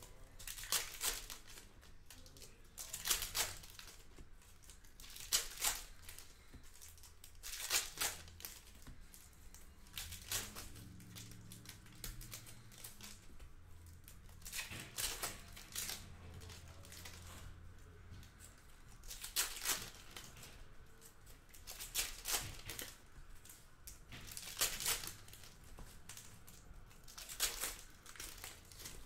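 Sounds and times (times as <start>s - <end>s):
foil wrappers tearing and crinkling: 0.2s - 13.3s, 14.0s - 17.4s, 18.4s - 23.1s, 23.9s - 29.0s.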